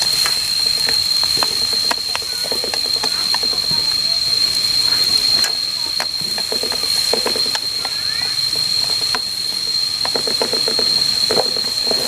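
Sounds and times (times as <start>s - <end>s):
tomatoes sizzling in a pan: 0.0s - 11.9s
steady high-pitched whine: 0.0s - 12.0s.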